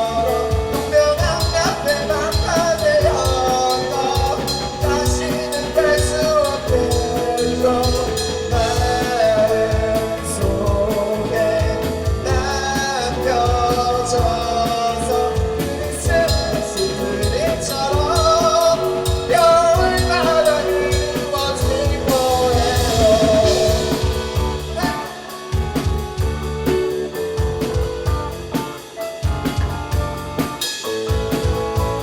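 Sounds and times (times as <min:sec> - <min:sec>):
guitar or keyboard chords: 0:00.0 - 0:32.0
singer's melody: 0:00.0 - 0:32.0
steady drum beat: 0:00.0 - 0:32.0.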